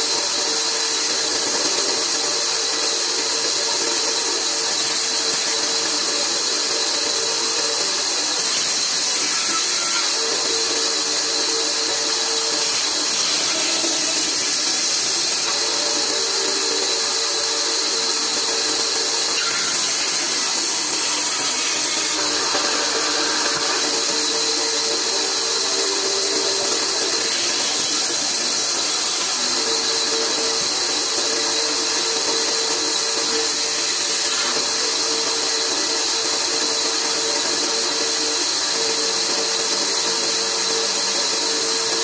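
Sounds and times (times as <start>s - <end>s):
bandsaw cutting wood: 0.0s - 42.0s.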